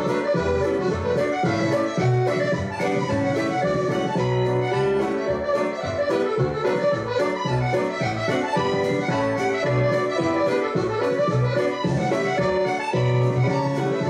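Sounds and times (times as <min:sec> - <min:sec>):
accordion playing dance tune: 0:00.0 - 0:14.0.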